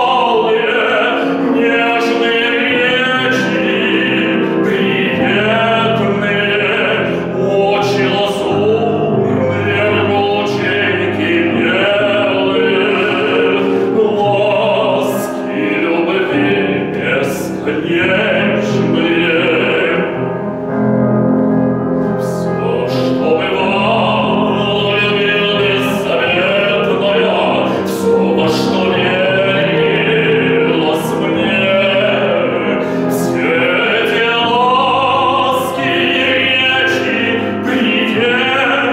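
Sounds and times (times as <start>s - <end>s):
man singing operatically: 0.0s - 20.4s, 22.0s - 38.9s
piano accompaniment: 0.0s - 38.9s.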